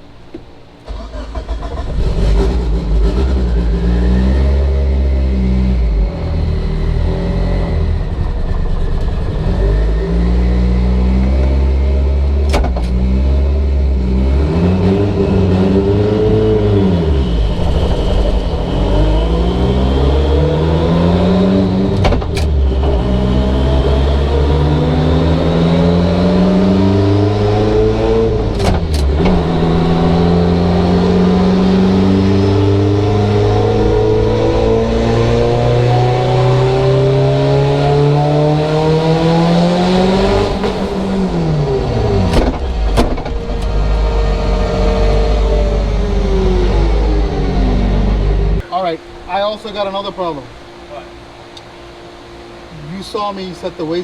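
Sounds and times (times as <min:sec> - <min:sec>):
exhaust cracks: 0:00.0 - 0:51.0
turbocharged engine revving: 0:00.8 - 0:54.0.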